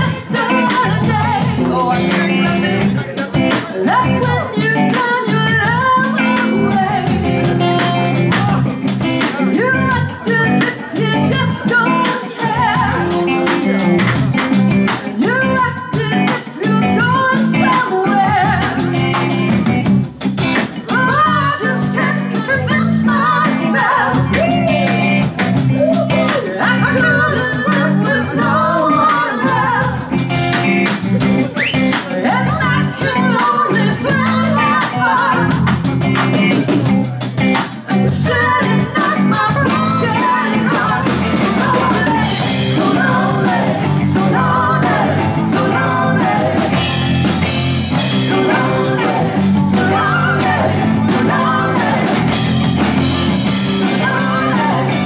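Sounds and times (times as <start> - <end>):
woman singing: 0.0 - 19.8, 20.5 - 30.7, 31.7 - 36.7, 37.6 - 55.0
live rock band playing: 0.0 - 55.0.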